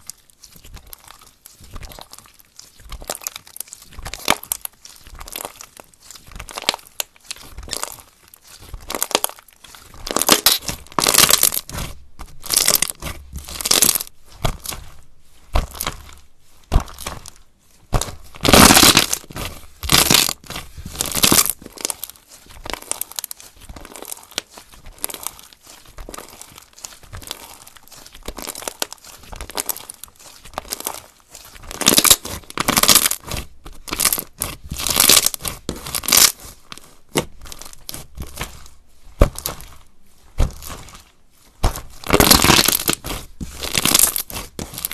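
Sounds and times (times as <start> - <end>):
slime squished by hand: 0.0 - 44.9.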